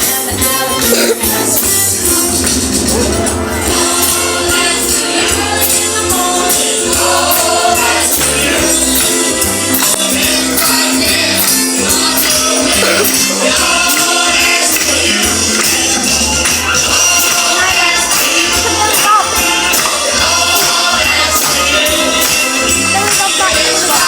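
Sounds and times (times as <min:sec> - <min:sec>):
person singing over a band: 0:00.0 - 0:24.0.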